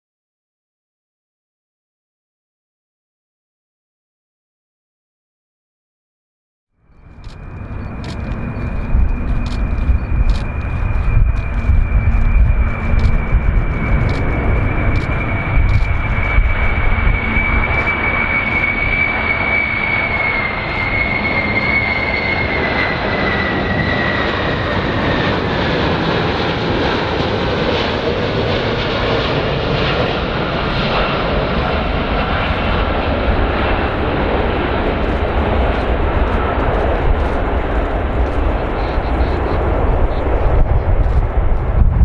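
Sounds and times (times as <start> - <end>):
airplane engines rumbling: 6.8 - 42.0
high engine whine: 6.8 - 42.0.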